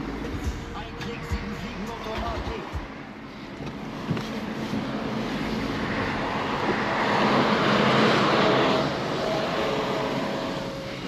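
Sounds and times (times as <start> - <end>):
diesel car engine accelerating: 0.0 - 11.0
road noise inside car: 0.0 - 11.0.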